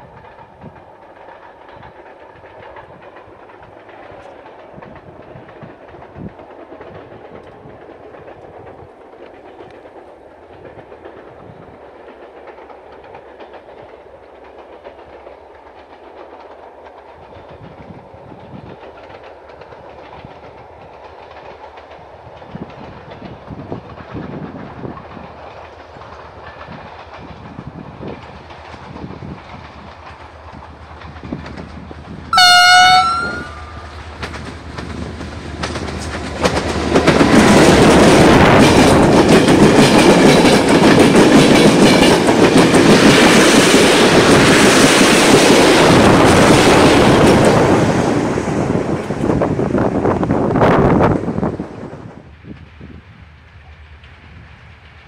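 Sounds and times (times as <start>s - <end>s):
distant train rumbling: 0.0s - 55.0s.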